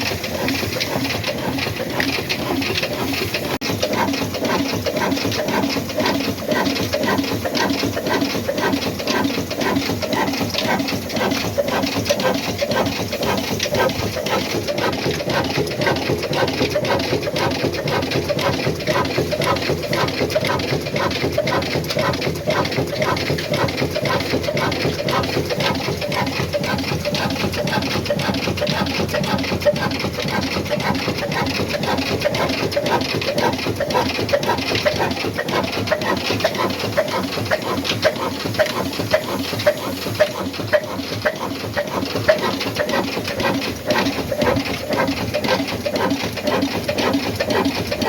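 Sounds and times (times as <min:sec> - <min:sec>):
diesel engine clattering: 0:00.0 - 0:48.0.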